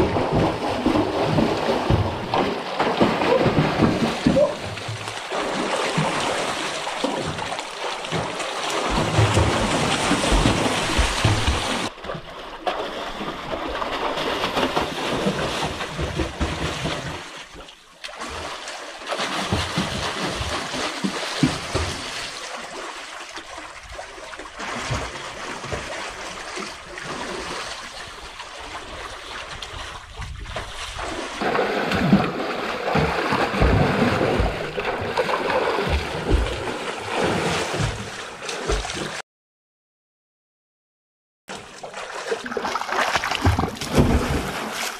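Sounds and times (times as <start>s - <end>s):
water splashing in pool: 0.0s - 39.2s, 41.5s - 44.9s.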